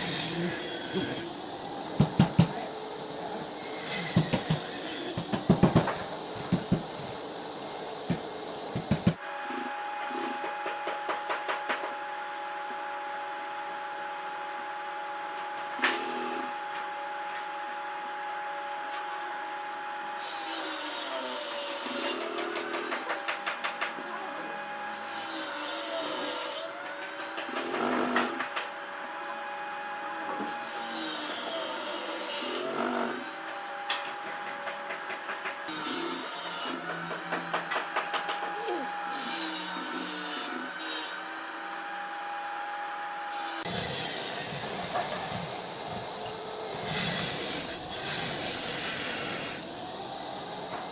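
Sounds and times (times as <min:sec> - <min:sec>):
power tool motor hum: 0:08.0 - 0:50.9.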